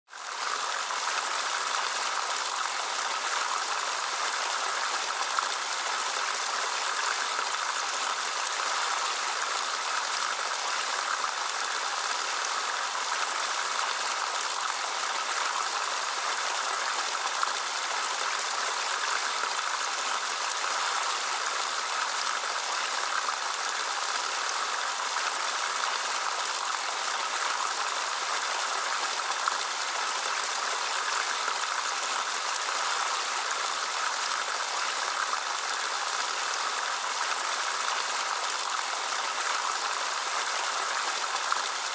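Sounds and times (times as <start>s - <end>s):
fountain water trickling and splashing: 0.1s - 41.9s.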